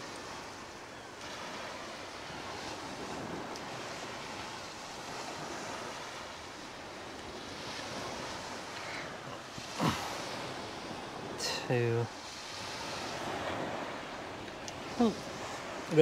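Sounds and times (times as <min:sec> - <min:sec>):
sea waves washing onto beach: 0:00.0 - 0:16.0
wind: 0:00.0 - 0:16.0.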